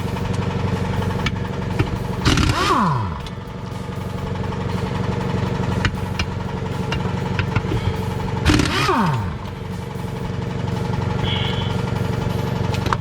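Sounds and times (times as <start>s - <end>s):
impact wrench hammering: 0.0s - 13.0s.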